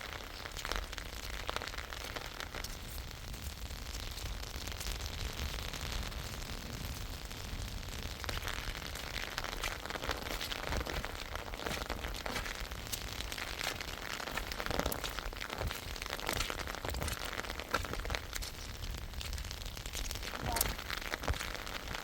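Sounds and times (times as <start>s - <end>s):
rain falling steadily: 0.0s - 22.0s.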